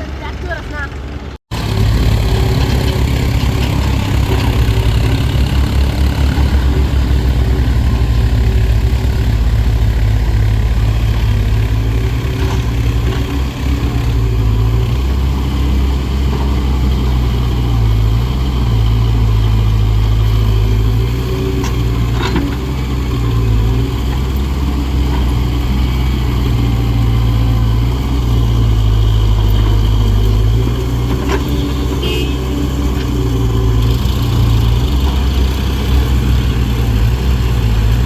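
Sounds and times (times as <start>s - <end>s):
diesel engine rumbling: 0.0s - 38.0s.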